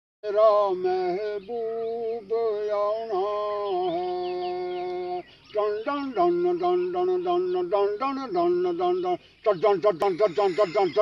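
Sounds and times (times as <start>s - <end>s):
person singing slow song: 0.2s - 9.2s
faint bird chirps: 0.2s - 11.0s.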